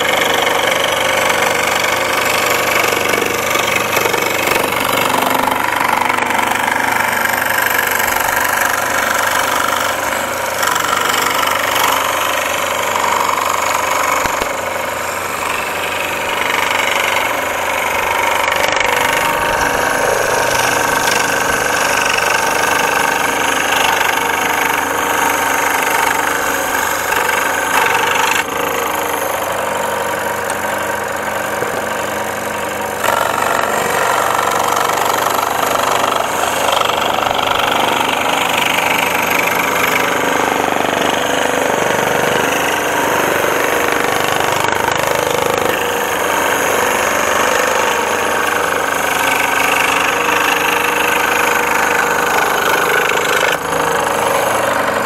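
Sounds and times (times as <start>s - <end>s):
scroll saw cutting plywood: 0.0s - 55.0s.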